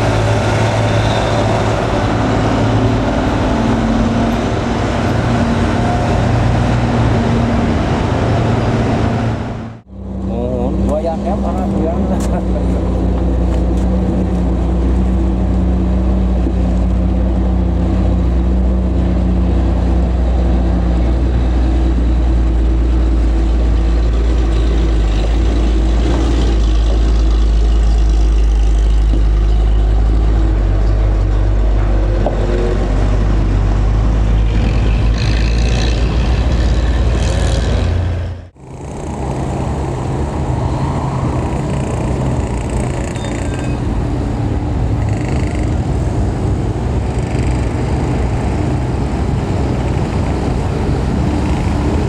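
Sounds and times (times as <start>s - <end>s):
truck engine running: 0.0s - 52.0s.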